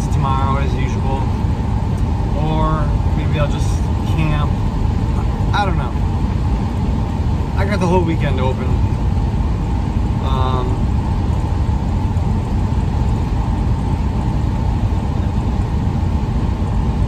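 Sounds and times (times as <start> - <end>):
road and engine rumble in van: 0.0 - 17.0.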